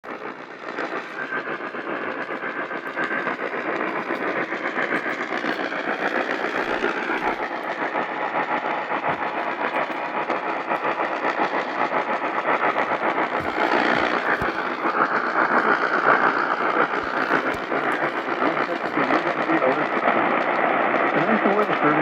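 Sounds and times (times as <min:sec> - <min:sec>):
crackling radio static: 0:00.0 - 0:22.0.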